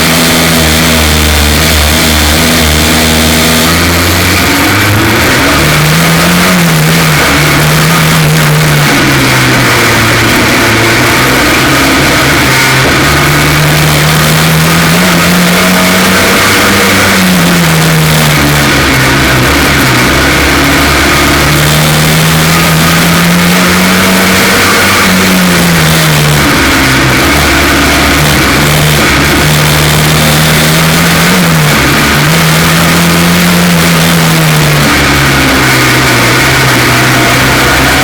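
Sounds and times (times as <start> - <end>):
race car engine misfiring: 0.0 - 38.0.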